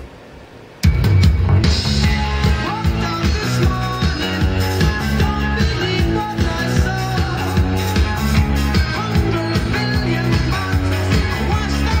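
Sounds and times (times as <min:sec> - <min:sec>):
rock music with guitar: 0:00.8 - 0:12.0.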